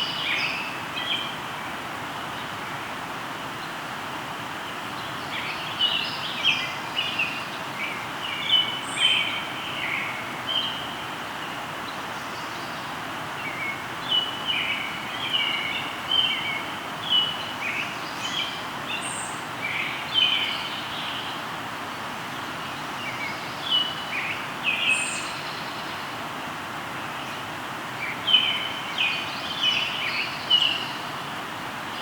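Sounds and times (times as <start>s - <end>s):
river flowing: 0.0s - 32.0s.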